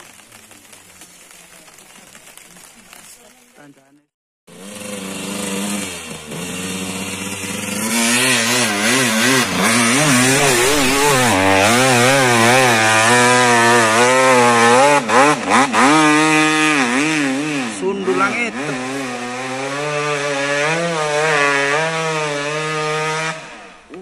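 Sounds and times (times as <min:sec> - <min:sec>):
dirt bike engine revving: 0:04.5 - 0:23.9.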